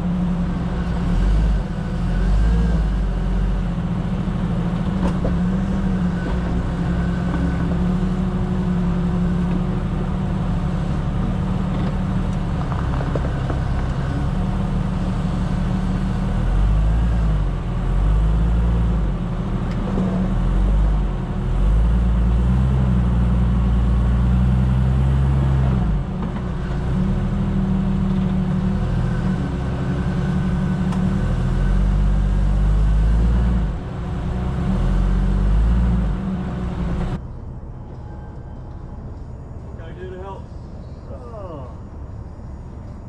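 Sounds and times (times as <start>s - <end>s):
engine revving under load: 0.0s - 37.2s.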